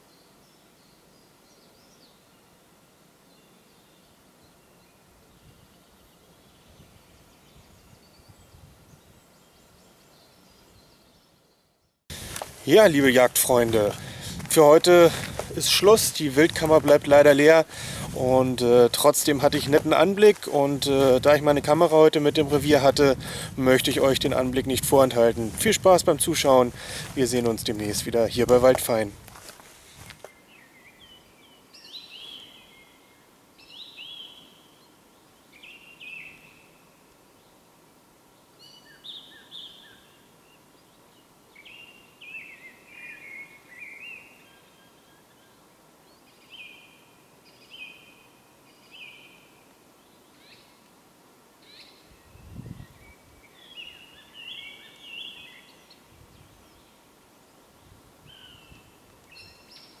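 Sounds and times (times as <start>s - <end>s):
songbird chirping: 0.0s - 37.7s, 38.3s - 51.0s, 51.6s - 60.0s
faint steady hiss: 0.0s - 60.0s.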